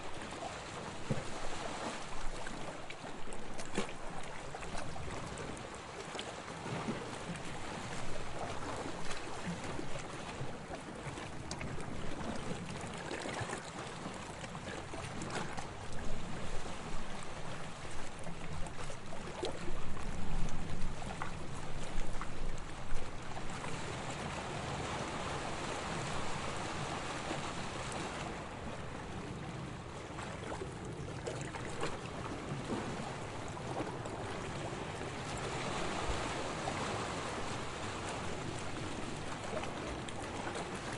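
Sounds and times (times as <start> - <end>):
small waves lapping on sand: 0.0 - 40.9.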